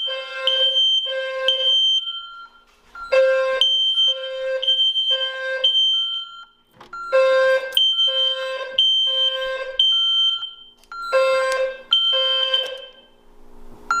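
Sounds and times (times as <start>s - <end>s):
fire alarm tones: 0.0s - 13.2s.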